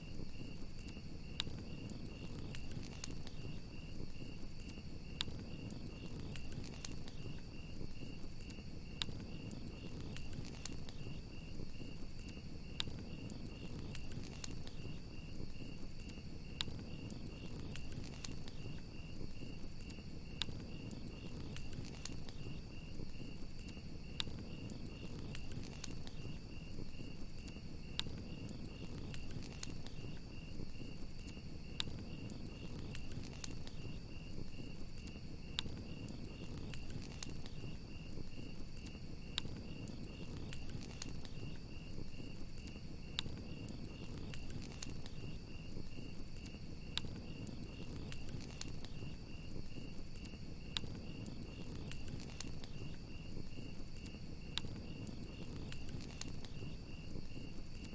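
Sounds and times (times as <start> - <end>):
crickets chirping: 0.0 - 57.9
fire popping: 0.0 - 57.9
wood fire crackling: 0.0 - 57.9.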